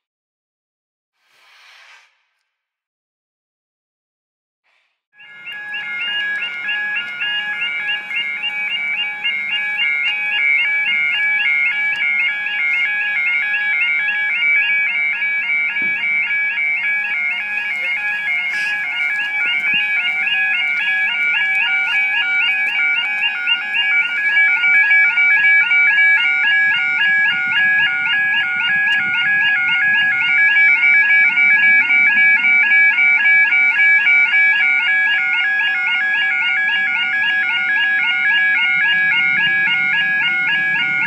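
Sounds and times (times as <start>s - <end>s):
level crossing alarm warbling: 5.2s - 41.0s.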